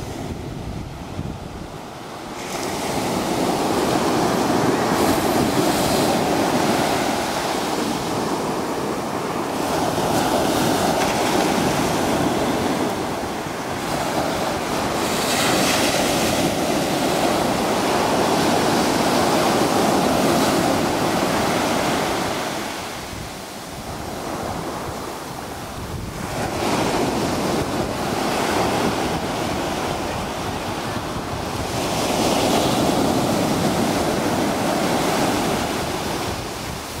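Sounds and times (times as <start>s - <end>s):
ocean waves breaking: 0.0s - 37.0s.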